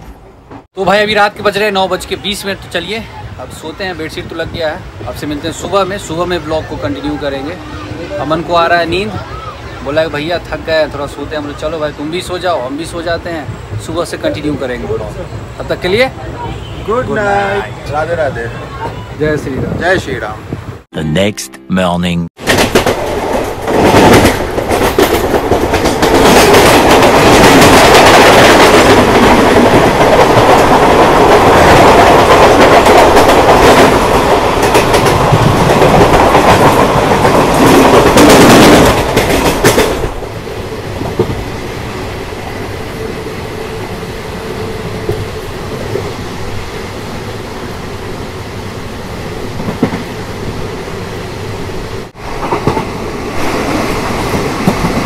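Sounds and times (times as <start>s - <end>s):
train clickety-clack on track: 0.0s - 2.8s, 10.0s - 20.8s, 22.4s - 51.3s, 51.9s - 55.0s.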